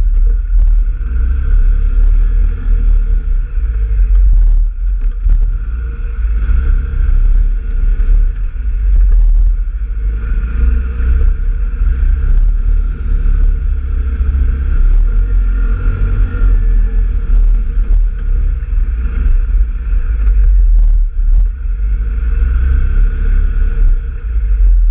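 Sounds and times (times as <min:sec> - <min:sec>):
off-road vehicle engine rumbling: 0:00.0 - 0:24.9.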